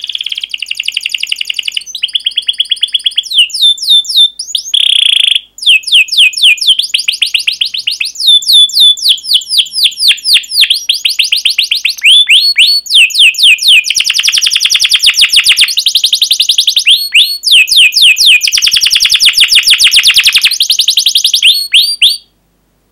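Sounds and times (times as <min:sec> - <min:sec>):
canary singing with trills: 0:00.0 - 0:22.3.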